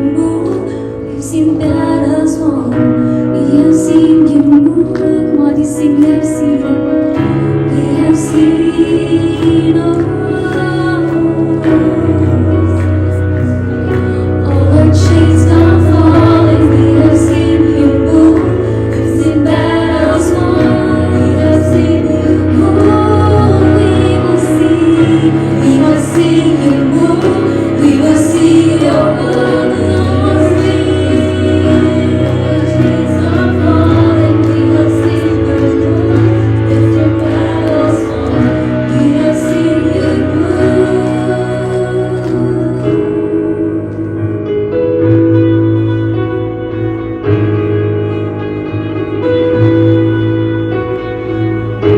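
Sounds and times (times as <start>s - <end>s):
worship song singing: 0.0s - 44.9s
held chords: 0.0s - 51.9s.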